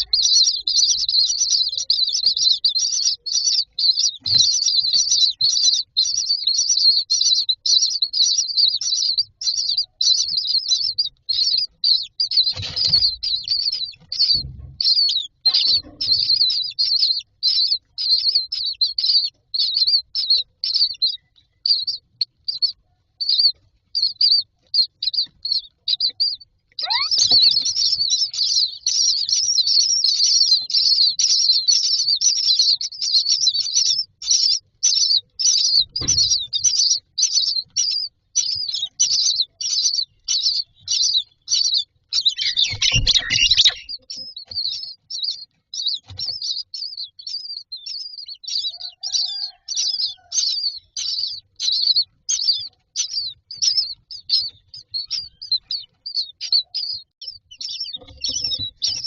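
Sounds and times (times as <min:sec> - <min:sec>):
nestlings begging calls: 0:00.0 - 0:59.0.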